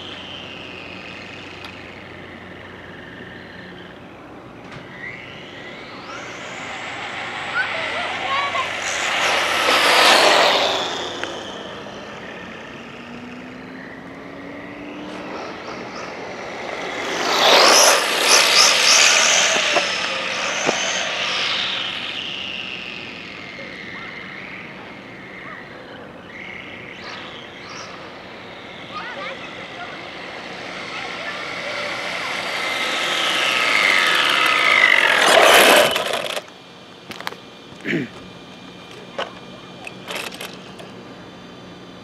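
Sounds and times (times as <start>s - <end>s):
faint rising motor whine: 0.0s - 42.0s
rc truck motor whine speeding past: 0.0s - 42.0s.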